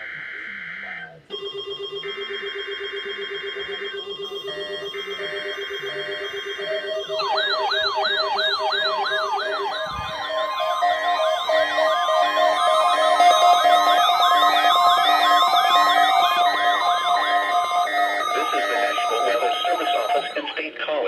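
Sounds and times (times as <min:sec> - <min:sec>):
fast-wailing electronic siren: 0:00.0 - 0:20.8
beeping alert tones: 0:02.9 - 0:20.8
harsh buzzing data bursts: 0:03.6 - 0:21.0.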